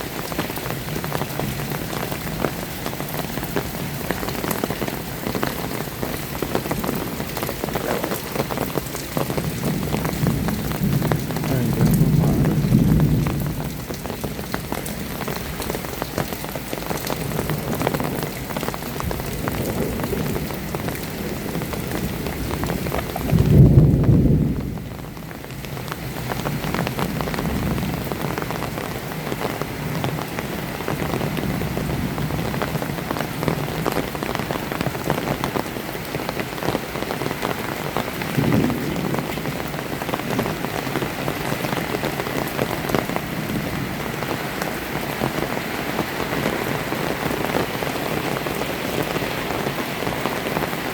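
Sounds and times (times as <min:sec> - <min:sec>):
heavy rain pattering: 0:00.0 - 0:50.9.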